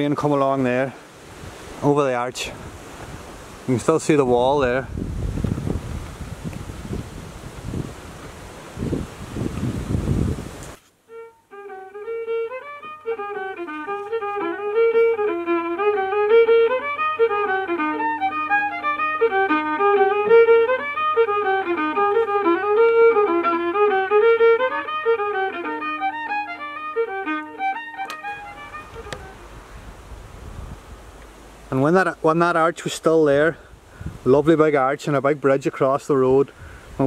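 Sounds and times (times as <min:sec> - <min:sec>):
solo fiddle tune: 0:00.0 - 0:34.3.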